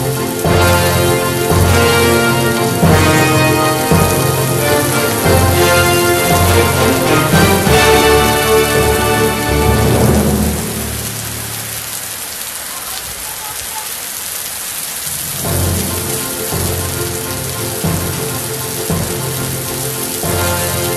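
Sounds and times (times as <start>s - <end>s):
background music: 0.0s - 12.0s, 15.1s - 20.9s
heavy rain pouring: 0.0s - 20.9s.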